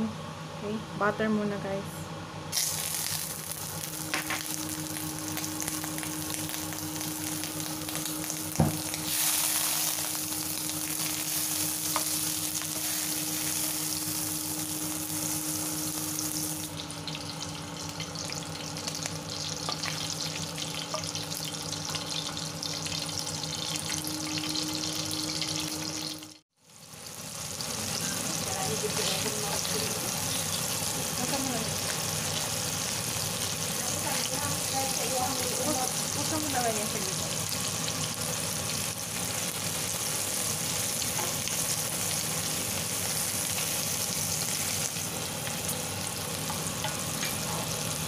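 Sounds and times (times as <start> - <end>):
butter sizzling in a wok: 2.5 - 48.0.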